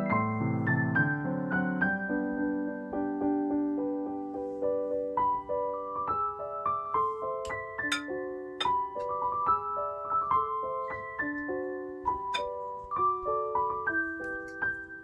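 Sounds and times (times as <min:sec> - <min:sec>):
piano melody with held notes: 0:00.0 - 0:15.0.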